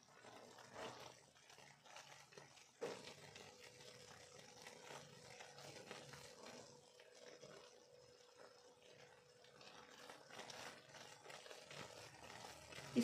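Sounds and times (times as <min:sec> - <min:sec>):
spatula scraping a pan: 0:00.0 - 0:03.5, 0:04.1 - 0:07.8, 0:09.0 - 0:13.0
syrup boiling: 0:00.0 - 0:13.0.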